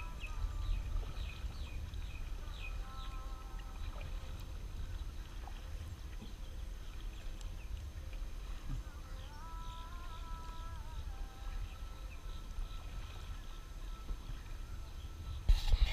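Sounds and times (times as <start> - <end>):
wind and water rumble: 0.0 - 15.9.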